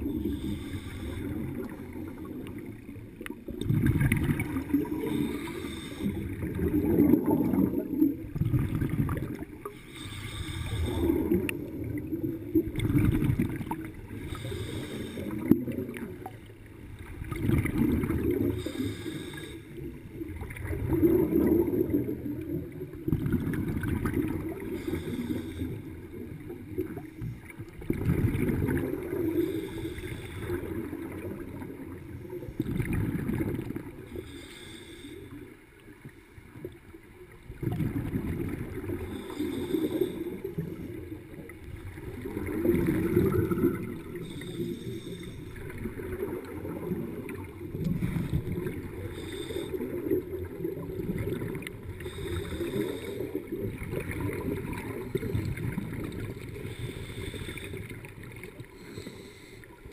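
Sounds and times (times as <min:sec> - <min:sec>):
underwater bubbles gurgling: 0:00.0 - 0:59.9.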